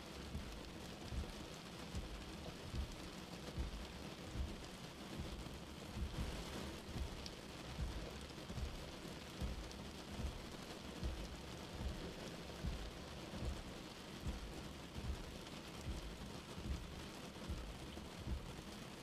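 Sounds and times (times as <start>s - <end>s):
rain on car windscreen: 0.0s - 19.0s
windscreen wipers thumping: 0.3s - 18.6s.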